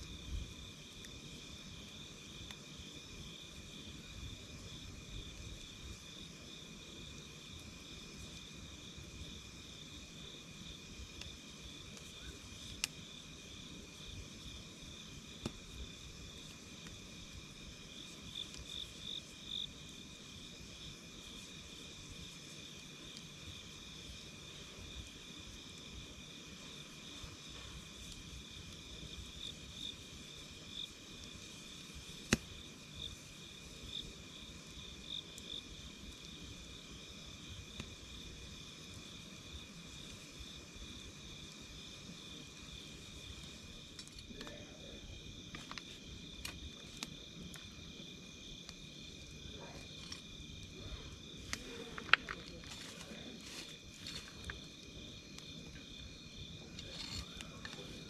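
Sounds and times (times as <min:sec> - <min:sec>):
campfire crackling and popping: 0:00.0 - 0:58.0
insects chirping: 0:00.0 - 0:58.0.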